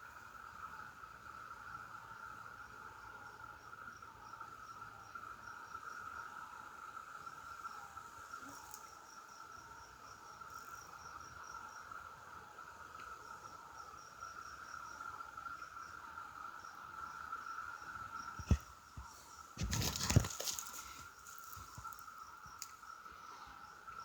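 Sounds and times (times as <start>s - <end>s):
cicadas droning: 0.0s - 24.0s
high pulsing insect call: 0.0s - 24.0s.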